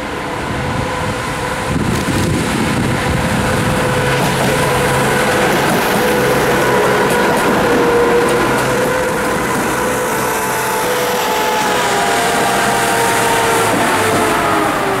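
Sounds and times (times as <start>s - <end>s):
engine whine: 0.0s - 15.0s
railbus engine humming: 0.0s - 15.0s.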